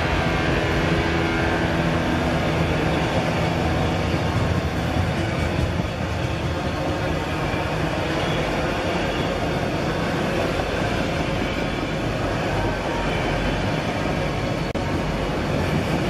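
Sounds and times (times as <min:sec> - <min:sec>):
rail cars rattling on track: 0:00.0 - 0:16.0
train rumbling by: 0:00.0 - 0:16.0.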